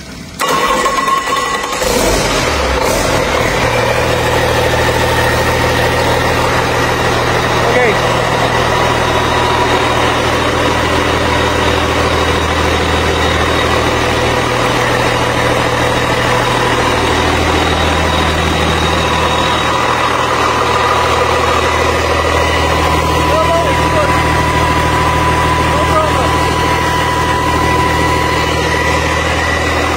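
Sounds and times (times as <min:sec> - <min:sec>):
large engine idling: 0:00.0 - 0:29.9.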